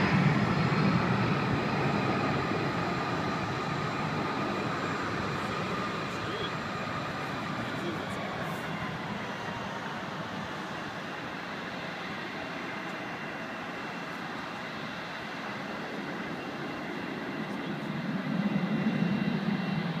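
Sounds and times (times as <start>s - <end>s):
distant jet engines whining: 0.0s - 20.0s.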